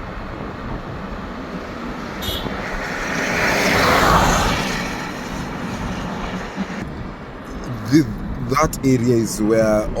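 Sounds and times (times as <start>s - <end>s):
passing vehicle rush: 0.0s - 9.9s
car road and tyre noise: 0.0s - 10.0s.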